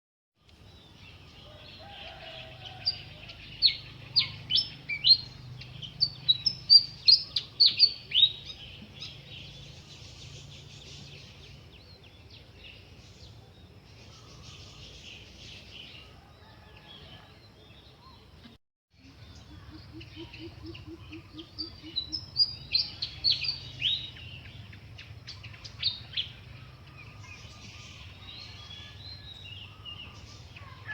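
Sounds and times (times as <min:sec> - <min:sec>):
birds singing: 0:00.4 - 0:30.9.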